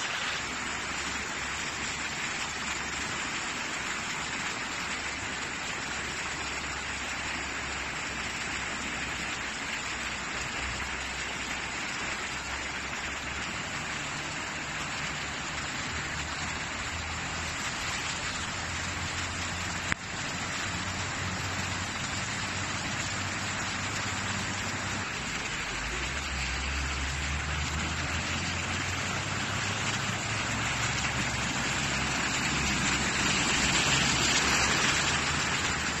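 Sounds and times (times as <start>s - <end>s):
cars driving through flooded road: 0.0s - 36.0s
heavy rain falling: 0.0s - 36.0s.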